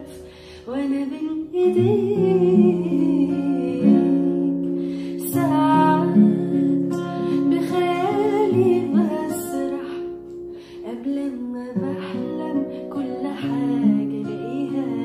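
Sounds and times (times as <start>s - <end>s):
acoustic guitar: 0.0s - 15.0s
woman singing: 0.0s - 15.0s.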